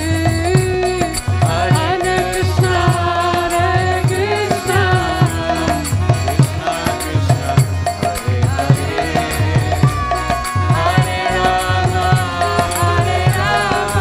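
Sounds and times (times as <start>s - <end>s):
drum beating steady rhythm: 0.0s - 14.0s
person singing a chant: 0.0s - 14.0s.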